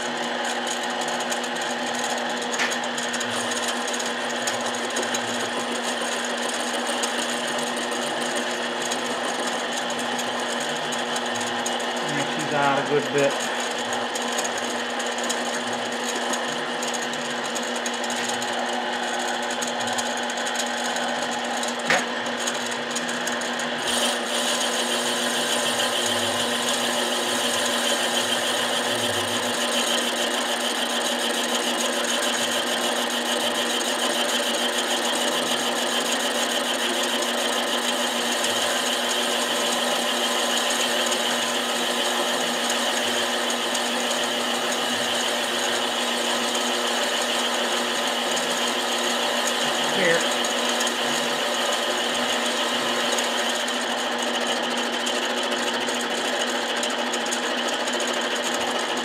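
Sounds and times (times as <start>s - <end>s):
lathe motor whine: 0.0s - 59.0s.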